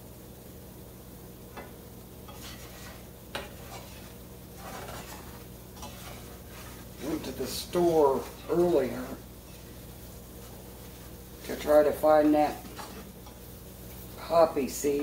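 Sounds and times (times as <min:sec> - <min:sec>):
light sizzle: 0:00.0 - 0:15.0
fork scraping a skillet: 0:01.6 - 0:14.0.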